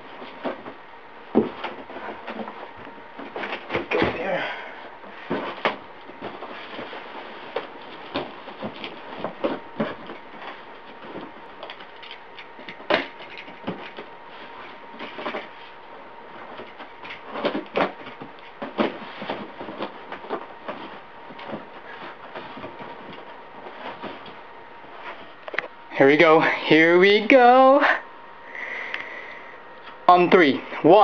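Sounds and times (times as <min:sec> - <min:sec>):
sharp crackles and knocks: 0:00.0 - 0:04.2, 0:05.0 - 0:25.8
cardboard and plastic rustling: 0:00.0 - 0:25.8.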